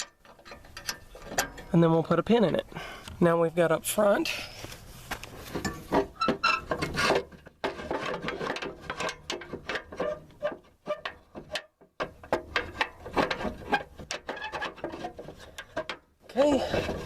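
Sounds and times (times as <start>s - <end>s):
metal clicks and clanks: 0.0s - 3.2s, 5.5s - 16.1s.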